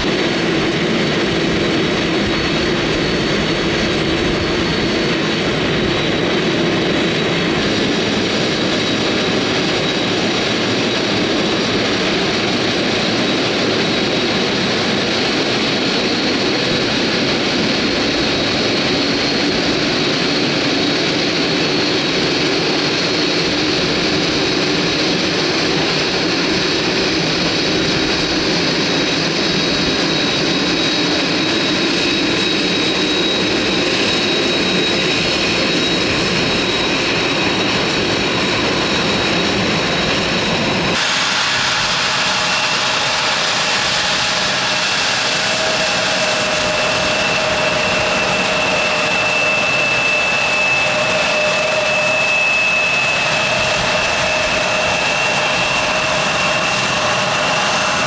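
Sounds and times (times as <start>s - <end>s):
engine with lower whine: 0.0s - 58.0s
jet engines whining: 0.0s - 58.0s.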